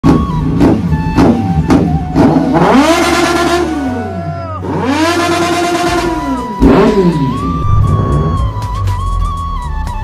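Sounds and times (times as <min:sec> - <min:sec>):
motorcycle engine revving: 0:00.1 - 0:08.6.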